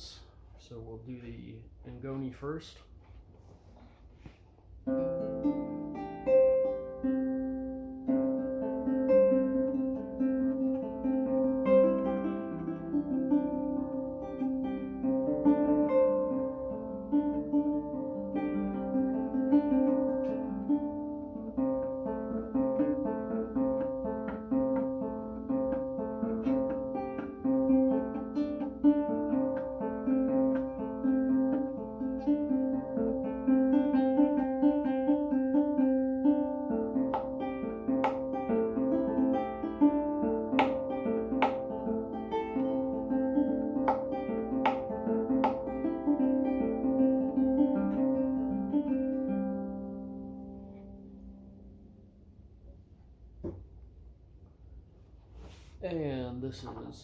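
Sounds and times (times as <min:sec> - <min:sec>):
plucked lute melody: 0:04.7 - 0:52.8.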